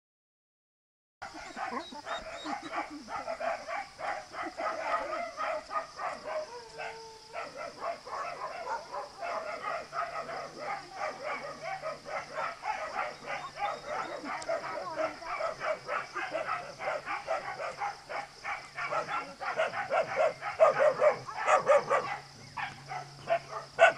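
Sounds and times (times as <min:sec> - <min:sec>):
dogs barking rapidly: 0:01.2 - 0:23.9.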